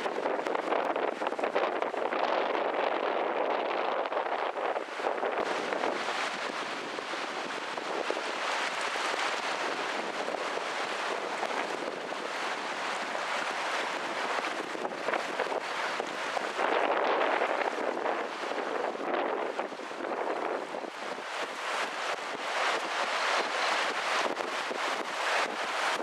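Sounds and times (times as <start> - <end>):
river water rushing: 4.2 - 26.0.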